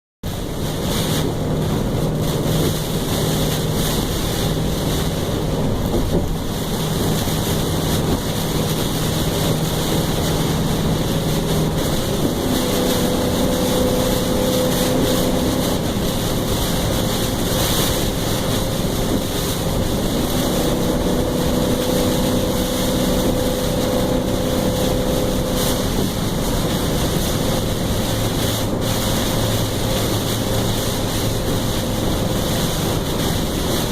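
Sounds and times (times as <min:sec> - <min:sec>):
strong wind on microphone: 0:00.3 - 0:33.9
motor hum: 0:00.4 - 0:33.9.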